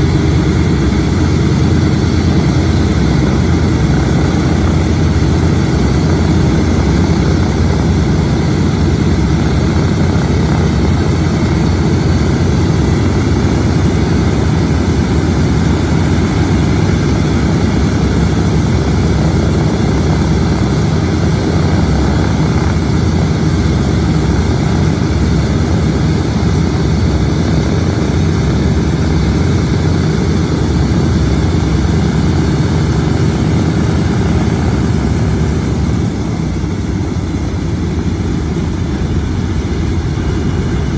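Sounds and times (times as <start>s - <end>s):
radial aircraft engines running: 0.0s - 40.9s.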